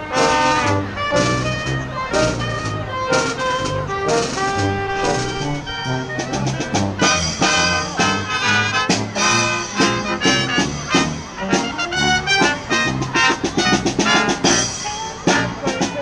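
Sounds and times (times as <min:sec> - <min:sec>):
brass band playing swing tune: 0:00.0 - 0:16.0.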